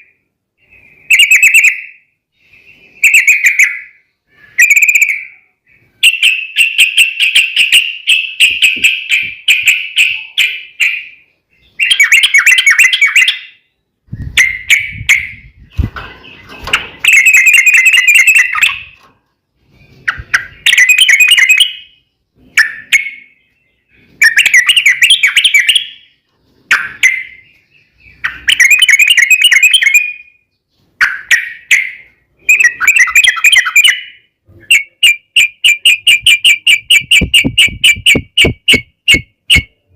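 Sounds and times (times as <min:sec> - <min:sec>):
bird singing chattering phrases: 0:02.4 - 0:19.0, 0:19.6 - 0:39.9.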